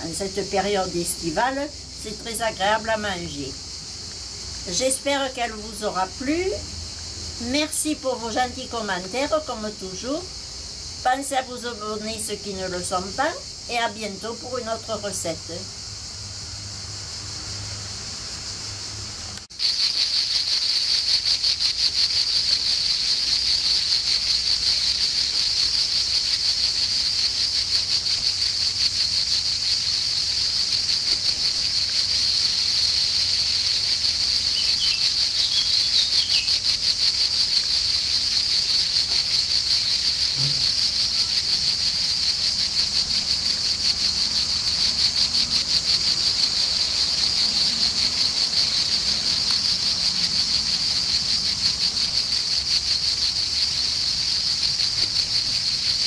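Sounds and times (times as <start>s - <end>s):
insect chorus buzzing: 0.0s - 56.0s.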